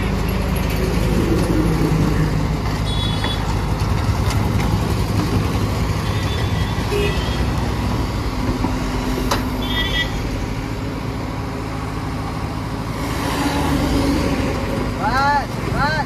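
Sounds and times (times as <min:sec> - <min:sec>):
excavator diesel engine running: 0:00.0 - 0:13.0
passing road traffic: 0:00.0 - 0:16.0.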